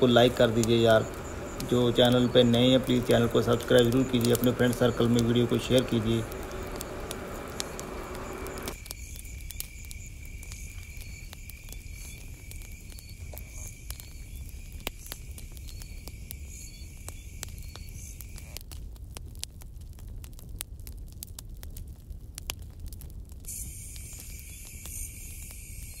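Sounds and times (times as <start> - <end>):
insect trilling: 0.0 - 18.6, 23.5 - 26.0
bonfire crackling: 0.0 - 26.0.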